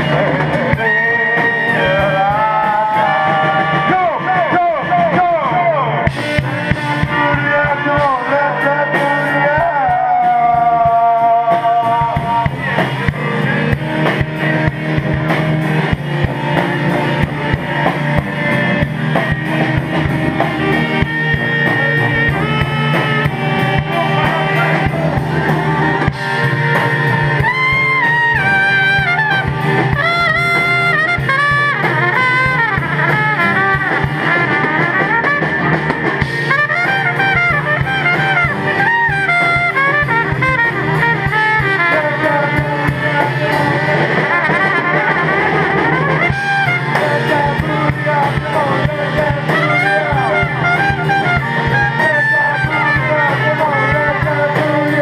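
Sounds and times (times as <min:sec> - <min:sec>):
live band playing: 0:00.0 - 0:55.0
trumpet line: 0:00.0 - 0:55.0.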